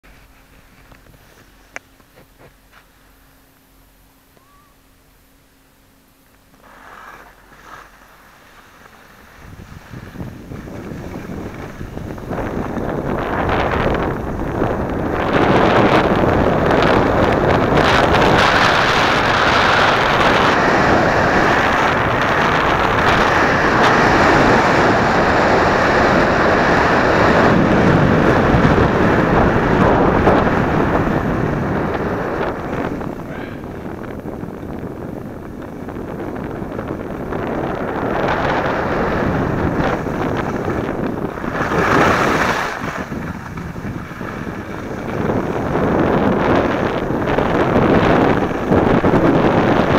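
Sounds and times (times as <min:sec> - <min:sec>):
wind roaring over microphone: 0:06.5 - 0:49.9.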